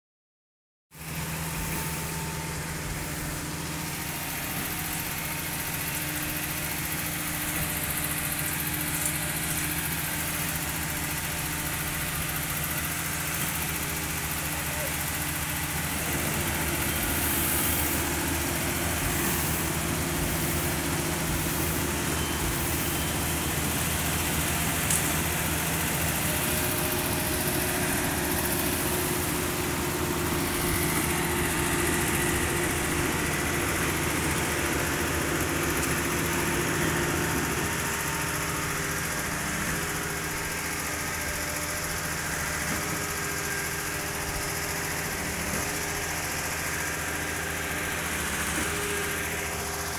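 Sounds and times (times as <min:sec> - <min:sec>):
engine humming steadily: 0:00.9 - 0:49.9.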